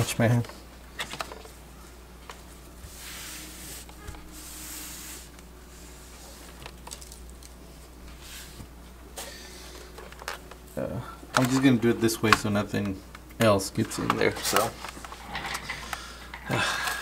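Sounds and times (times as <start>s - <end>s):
gloves rustling on plastic: 0.2s - 17.0s.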